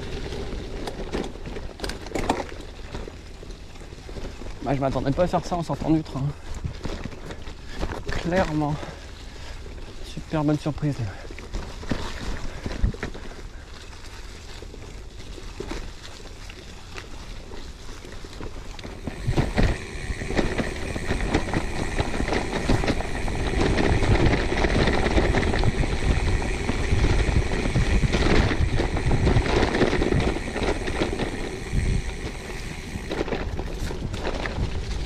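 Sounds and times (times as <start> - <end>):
bike rattling and knocking: 0.0 - 16.2, 16.9 - 35.0
bike tyre noise on rough track: 0.0 - 35.0.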